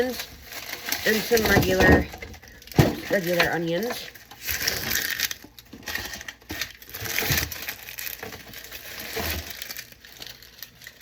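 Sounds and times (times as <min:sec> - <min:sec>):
onions rustling and knocking: 0:00.0 - 0:11.0.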